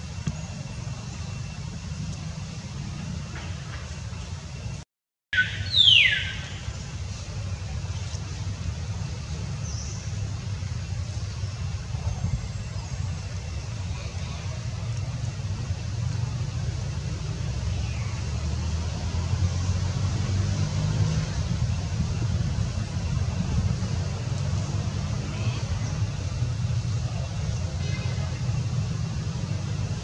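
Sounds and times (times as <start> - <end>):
low outdoor rumble: 0.0 - 4.8, 5.4 - 30.0.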